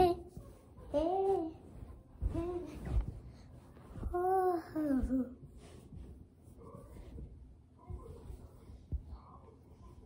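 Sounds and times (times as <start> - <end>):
rustling on sofa cushions: 0.0 - 9.2.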